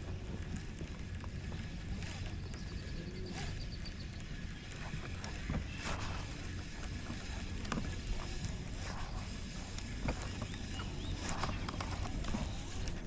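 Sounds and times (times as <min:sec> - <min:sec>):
water around boat hull: 0:00.0 - 0:13.0
wind buffeting microphone: 0:00.0 - 0:13.0.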